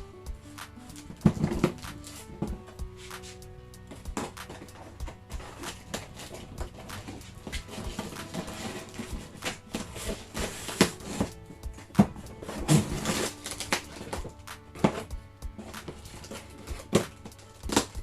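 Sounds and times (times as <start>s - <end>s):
background music: 0.0s - 18.0s
parcel rustling and knocking: 1.0s - 18.0s.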